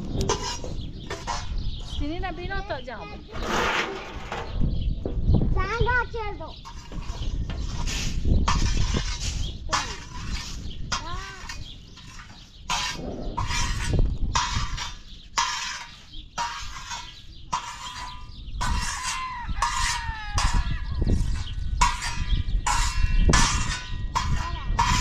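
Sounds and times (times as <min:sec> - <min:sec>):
bird calls: 0:00.1 - 0:25.0
spatula scraping grain on griddle: 0:00.2 - 0:01.9, 0:03.2 - 0:04.6, 0:06.6 - 0:25.0.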